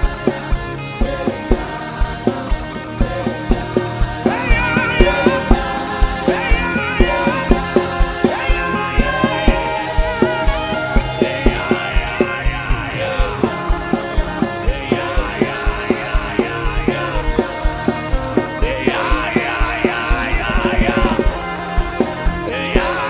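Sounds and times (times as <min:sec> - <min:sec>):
band playing: 0:00.0 - 0:23.0
fast drum beat: 0:00.0 - 0:23.0
voices singing gospel: 0:00.0 - 0:23.0.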